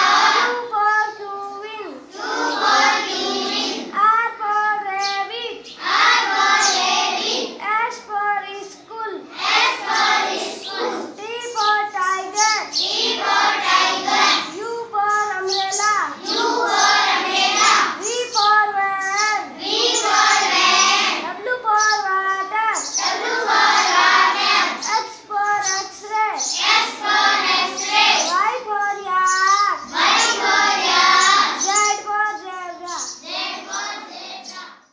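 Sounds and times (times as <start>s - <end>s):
child singing: 0.0s - 34.8s.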